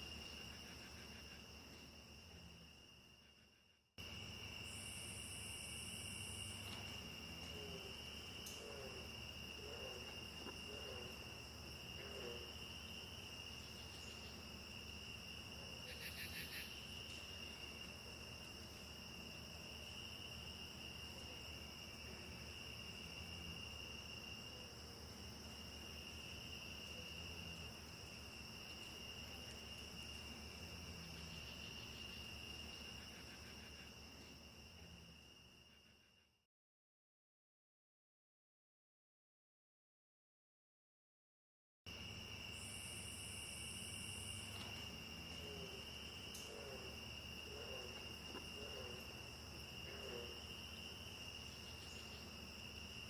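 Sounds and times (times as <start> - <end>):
crickets trilling: 0.0 - 36.4, 41.9 - 53.0.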